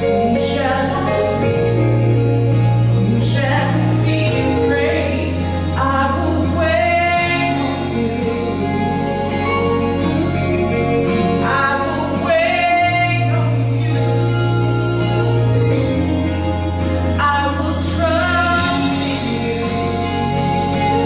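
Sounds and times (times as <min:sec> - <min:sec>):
woman singing gospel: 0:00.0 - 0:02.2, 0:02.9 - 0:20.4
instrumental accompaniment: 0:00.0 - 0:21.0.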